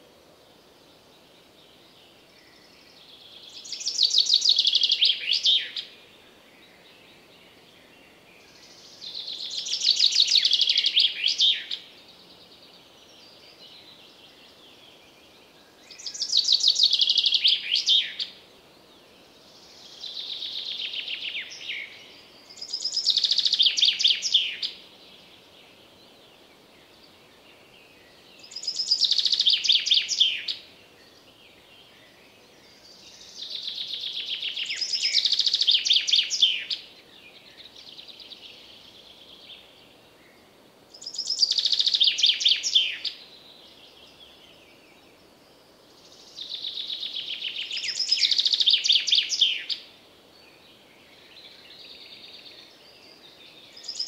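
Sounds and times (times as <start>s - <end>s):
faint bird song: 0.0s - 54.0s.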